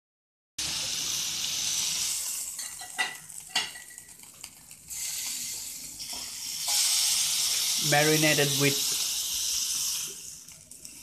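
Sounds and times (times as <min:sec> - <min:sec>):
skewer sizzling in a frying pan: 0:00.6 - 0:11.0.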